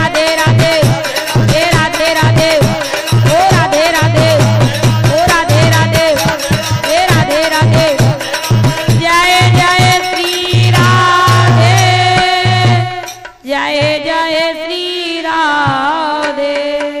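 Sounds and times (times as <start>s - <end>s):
sustained accompaniment: 0.0s - 14.1s.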